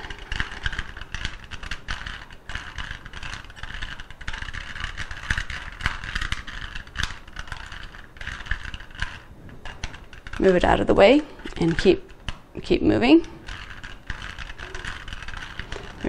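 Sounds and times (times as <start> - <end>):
puzzle cube clicking and rattling: 0.0 - 16.0.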